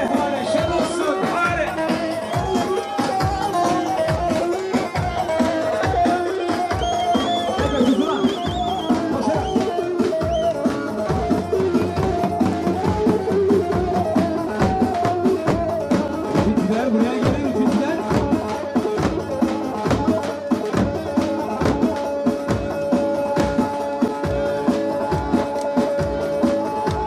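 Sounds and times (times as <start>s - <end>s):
drums beating steady rhythm: 0.0s - 27.0s
wavering folk melody: 0.0s - 27.0s.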